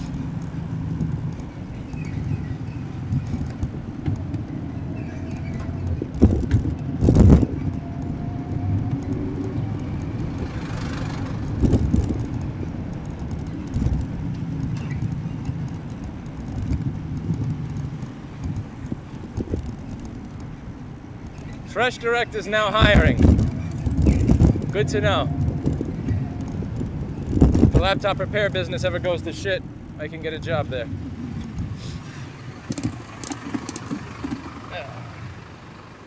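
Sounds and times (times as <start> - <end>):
rumble of vehicle engines: 0.0 - 36.0.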